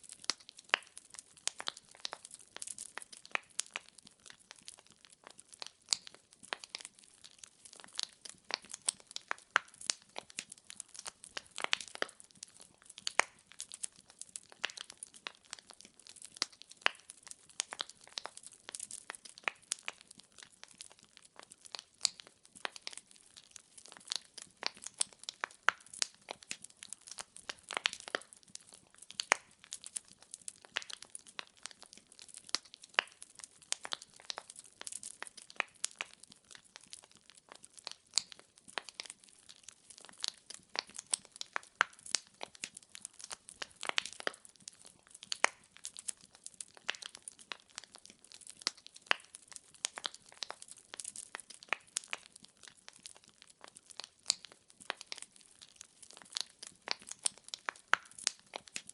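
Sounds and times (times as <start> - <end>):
firewood crackling and popping: 0.0 - 58.9.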